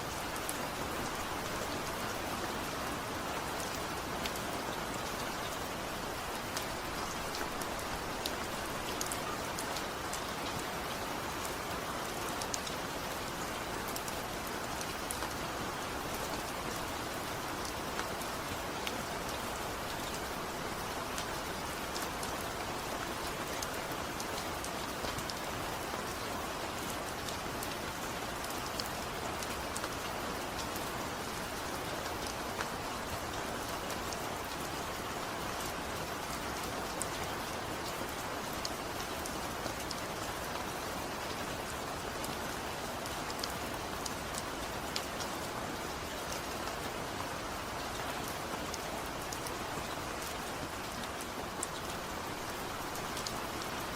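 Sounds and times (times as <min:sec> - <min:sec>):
heavy rain falling: 0:00.0 - 0:53.9
rain drops splatting: 0:00.0 - 0:53.9.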